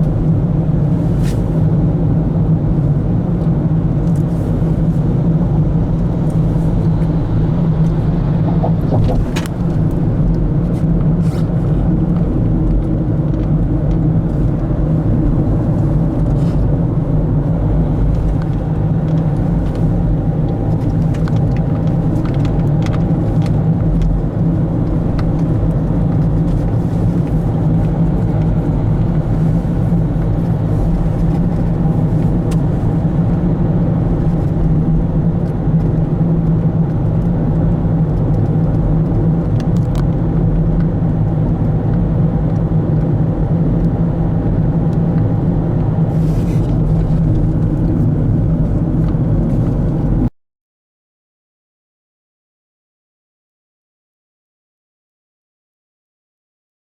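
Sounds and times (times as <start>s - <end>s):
car engine and road noise: 0.0s - 50.3s.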